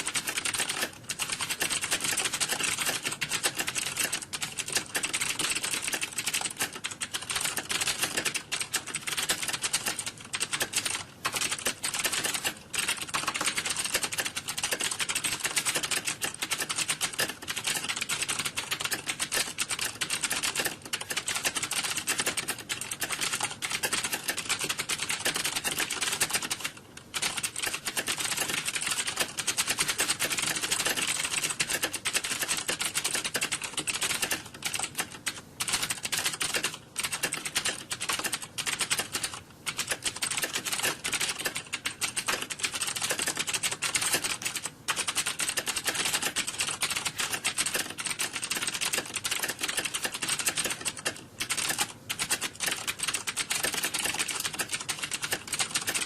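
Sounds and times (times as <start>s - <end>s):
keyboard typing: 0.0s - 56.0s.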